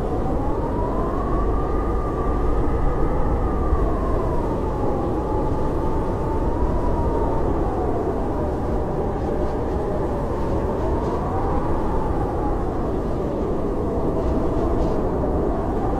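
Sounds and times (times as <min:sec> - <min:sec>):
blizzard wind howling: 0:00.0 - 0:15.9.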